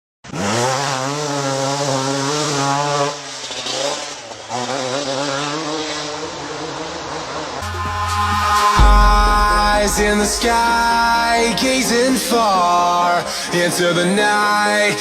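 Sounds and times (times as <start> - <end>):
motorcycle engine revving: 0.2 - 13.4.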